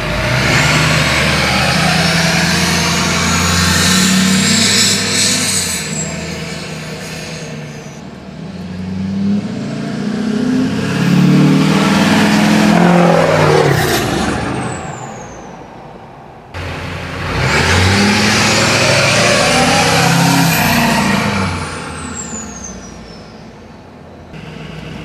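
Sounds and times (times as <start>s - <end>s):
diesel truck accelerating past: 0.0s - 25.0s.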